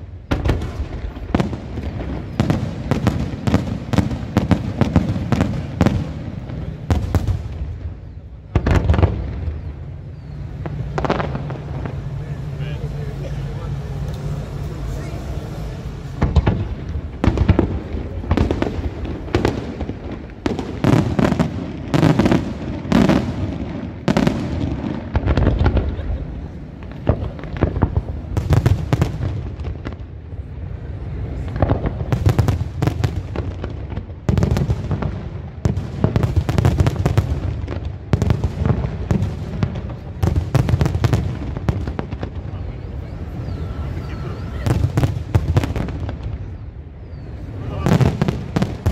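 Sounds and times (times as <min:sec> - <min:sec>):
fireworks launching and bursting: 0:00.0 - 0:48.9.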